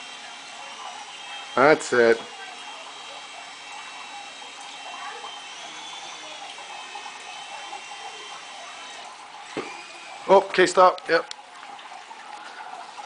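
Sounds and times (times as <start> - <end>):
helicopter rotors whirring: 0.0 - 13.0
high motor whine: 0.0 - 13.0.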